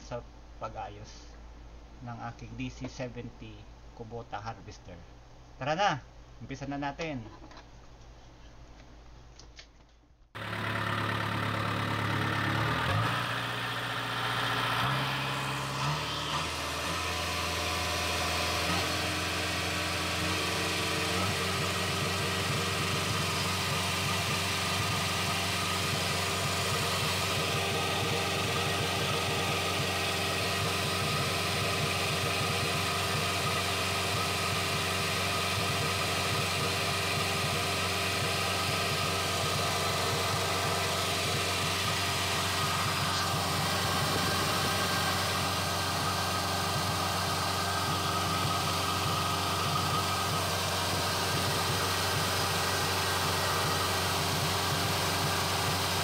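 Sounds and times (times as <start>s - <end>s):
diesel engine running: 10.4s - 56.0s.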